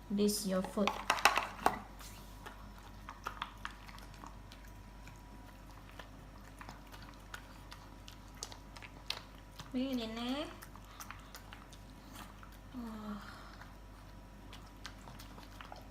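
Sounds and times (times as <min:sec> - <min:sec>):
dogs chewing food: 0:00.4 - 0:15.9.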